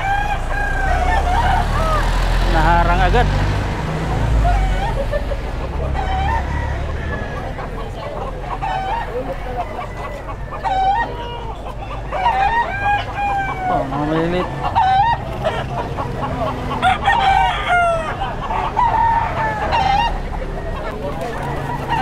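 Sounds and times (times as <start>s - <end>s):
chickens clucking: 0.0s - 22.0s
roosters crowing: 0.0s - 22.0s.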